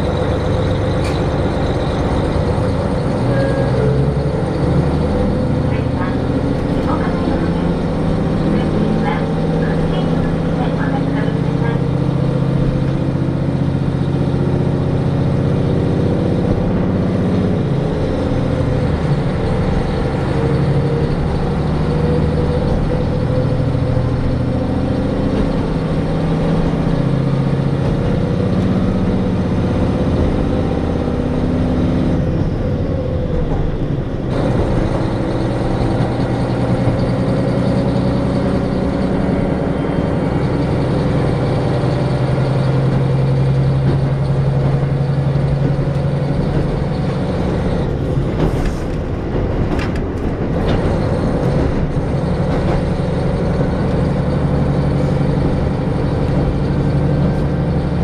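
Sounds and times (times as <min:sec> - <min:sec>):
diesel railcar engine drone: 0:00.0 - 0:58.0.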